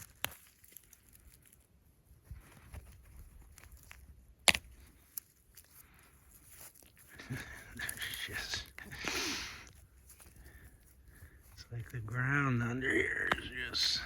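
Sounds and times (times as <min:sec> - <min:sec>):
rustling and scraping of earth: 0:00.0 - 0:14.0.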